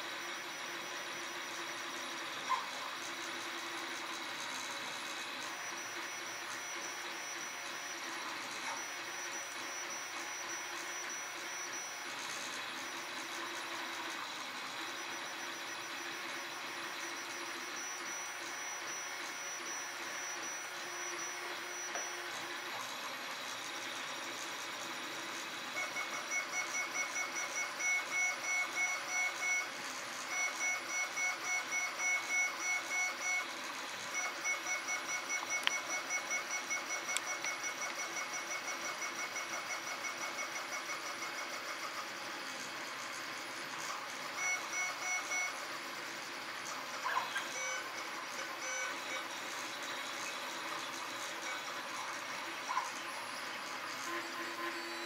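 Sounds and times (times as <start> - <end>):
steady mechanical hum: 0.0 - 55.0
stepper motors whining in pulses: 0.0 - 55.0.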